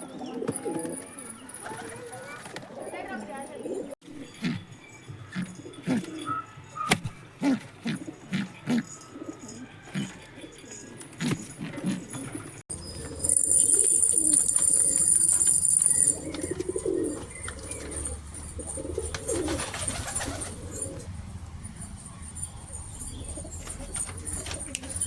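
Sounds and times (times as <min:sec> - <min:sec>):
pigeons cooing: 0:00.0 - 0:21.2, 0:22.8 - 0:25.0.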